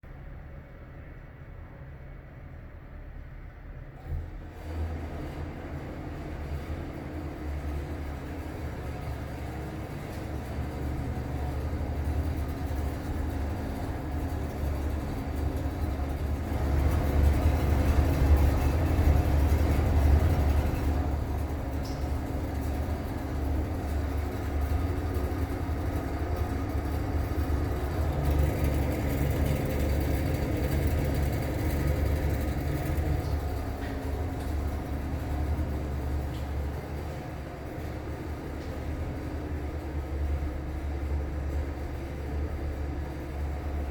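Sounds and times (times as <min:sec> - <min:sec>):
exhaust fan humming and rattling: 0:00.0 - 0:43.9.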